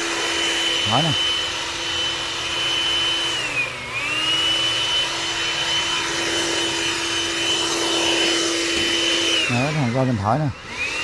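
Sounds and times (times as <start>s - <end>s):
leaf blower fan whine: 0.0s - 11.0s.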